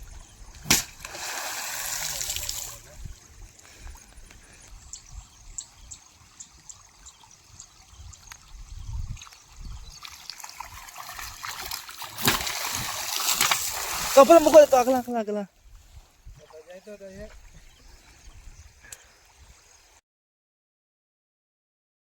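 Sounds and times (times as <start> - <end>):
river water trickling and splashing: 0.0 - 20.0.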